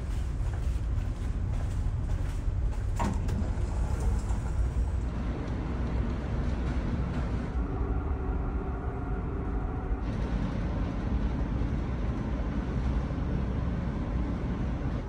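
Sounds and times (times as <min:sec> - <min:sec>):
faint hum: 0:00.0 - 0:15.0
ship engines rumbling: 0:00.0 - 0:15.0.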